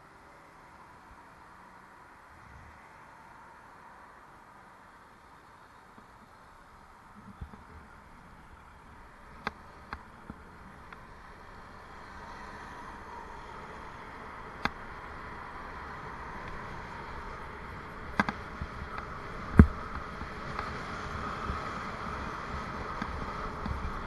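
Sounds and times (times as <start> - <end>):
road traffic: 0.0 - 24.0
wind and tyre rush: 0.0 - 24.0.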